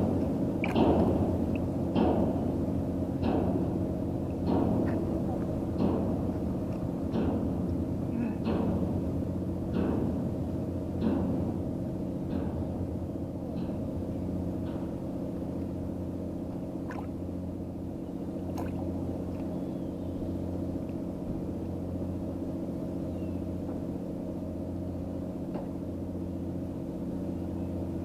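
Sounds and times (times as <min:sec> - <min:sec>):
low engine hum: 0:00.0 - 0:28.0.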